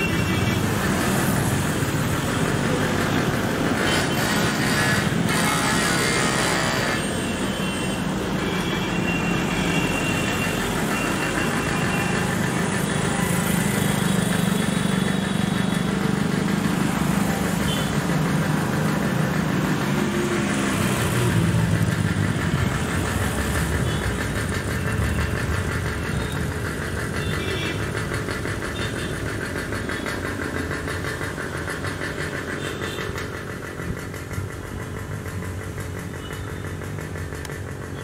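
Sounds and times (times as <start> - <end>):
cars and motorcycles driving slowly: 0.0 - 38.0.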